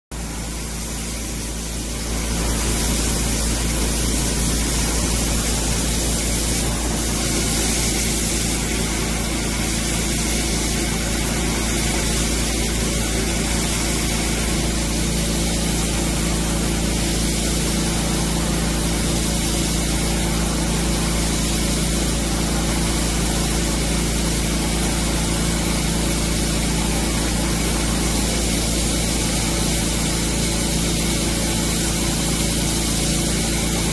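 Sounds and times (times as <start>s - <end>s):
abrasive blasting hiss: 0.2s - 33.9s.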